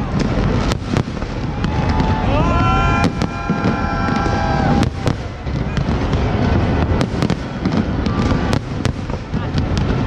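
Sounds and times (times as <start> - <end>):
fireworks bangs and crackles: 0.0 - 10.0
fireworks bursts rumbling: 0.0 - 10.0.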